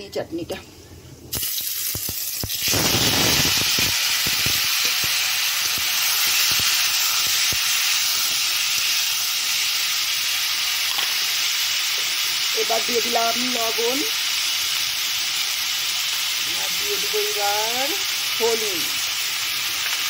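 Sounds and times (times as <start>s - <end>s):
food sizzling in hot oil: 1.3s - 20.0s.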